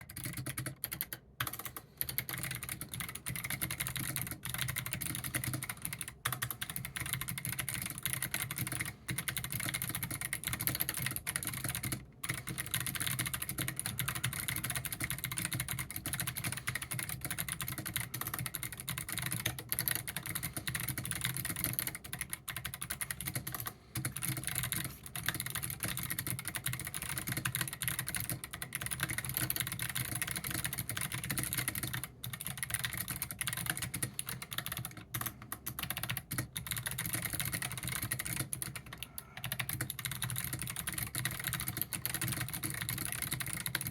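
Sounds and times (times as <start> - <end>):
fast mechanical keyboard typing: 0.0 - 43.9.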